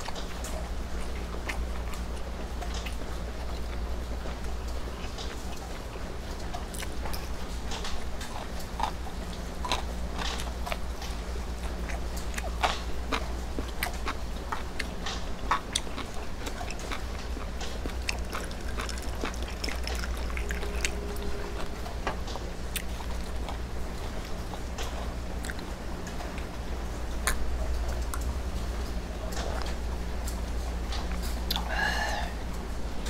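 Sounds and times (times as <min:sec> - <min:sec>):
chewing crunchy food: 0:00.0 - 0:32.0
low hum: 0:00.0 - 0:33.0.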